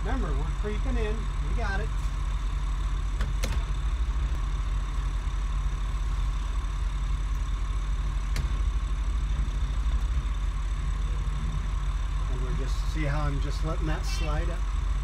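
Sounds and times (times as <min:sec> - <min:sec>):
boat engines idling: 0:00.0 - 0:15.0.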